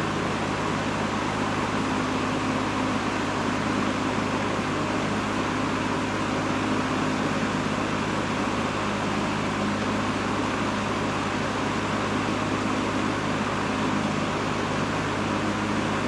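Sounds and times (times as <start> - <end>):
box fan blowing air: 0.0 - 16.0
fan motor hum: 0.0 - 16.0.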